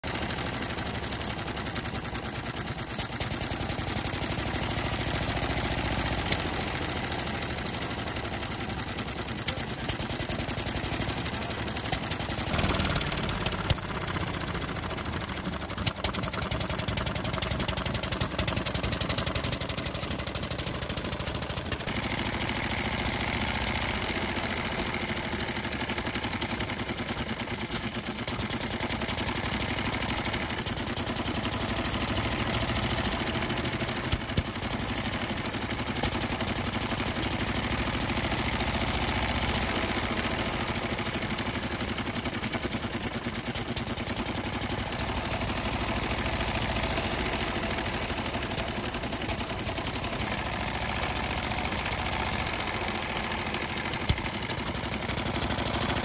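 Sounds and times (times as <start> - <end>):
stationary engine idling: 0.0 - 56.0.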